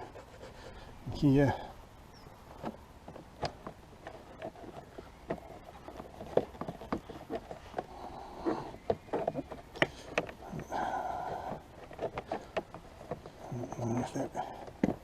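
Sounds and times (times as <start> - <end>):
hands clicking plastic panels: 2.5 - 15.0.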